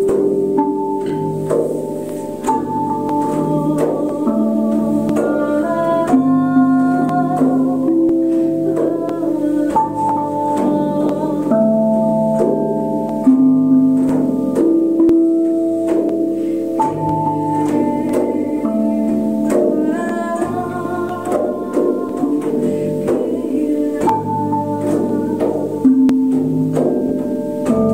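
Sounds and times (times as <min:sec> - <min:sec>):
slow ringing struck tones: 0:00.0 - 0:27.9.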